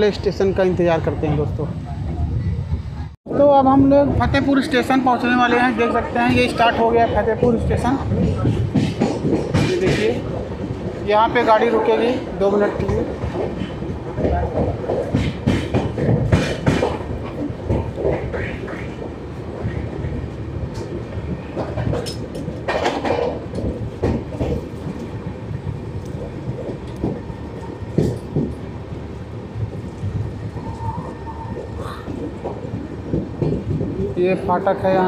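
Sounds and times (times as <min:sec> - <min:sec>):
train wheels rumbling: 0:00.0 - 0:35.0.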